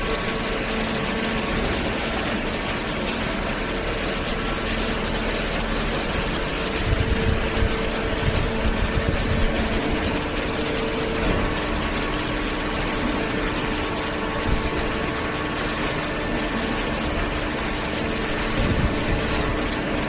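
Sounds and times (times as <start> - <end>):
hydraulic power unit humming: 0.0 - 20.0.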